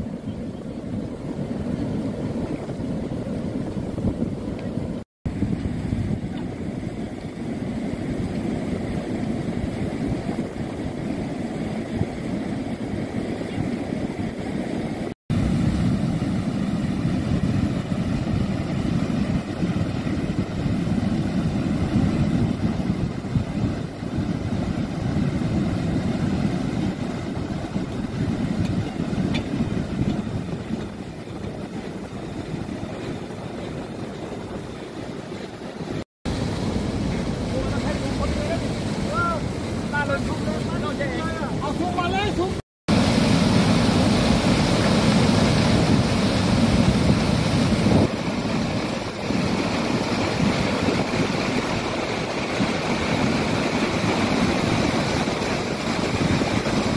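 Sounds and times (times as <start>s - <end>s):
water rushing over a weir: 0.8s - 56.9s.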